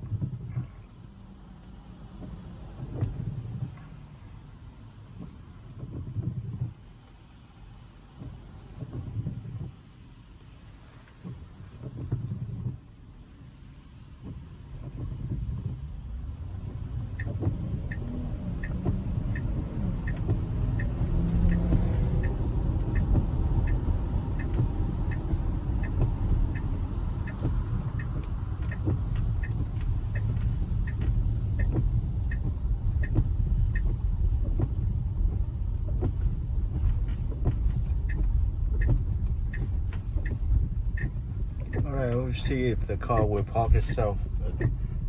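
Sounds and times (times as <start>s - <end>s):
turn signal ticking: 0.0s - 10.3s, 10.9s - 45.0s
tyre noise on wet road: 0.1s - 45.0s.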